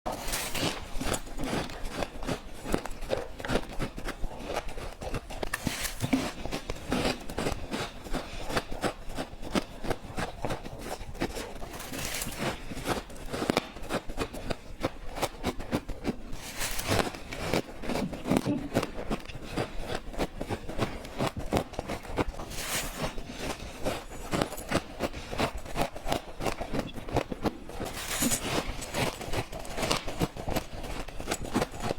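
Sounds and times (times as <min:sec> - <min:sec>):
crunching frost: 0:00.1 - 0:14.6, 0:15.2 - 0:31.9.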